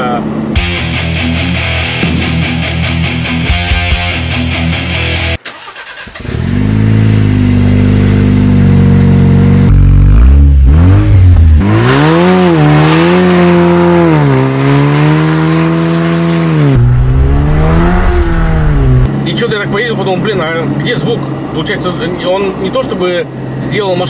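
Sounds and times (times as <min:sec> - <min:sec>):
car engine droning: 0:04.1 - 0:24.0.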